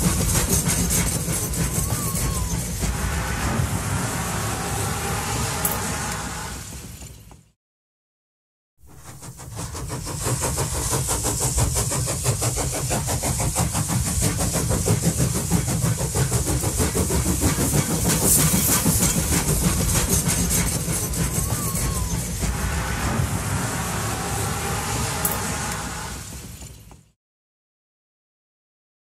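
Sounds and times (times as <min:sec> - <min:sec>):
electric train rumble and hiss: 0:00.0 - 0:07.4, 0:08.9 - 0:27.2.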